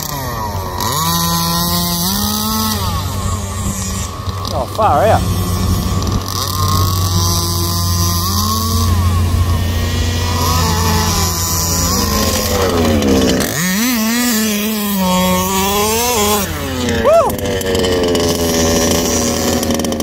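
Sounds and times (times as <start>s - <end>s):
engine winding up to high revs: 0.0s - 20.0s
small two-stroke engines revving: 0.0s - 20.0s.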